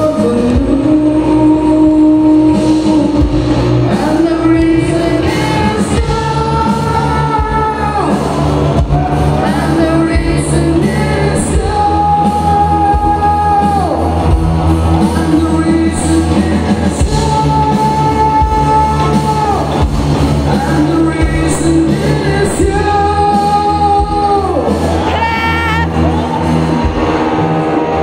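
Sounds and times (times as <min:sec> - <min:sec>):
lead singer: 0:00.0 - 0:28.0
live rock band playing: 0:00.0 - 0:28.0.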